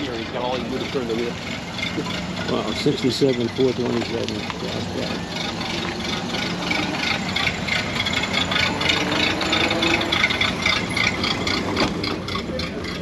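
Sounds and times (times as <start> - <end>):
low engine hum: 0.0 - 13.0
rain pattering: 0.3 - 11.6.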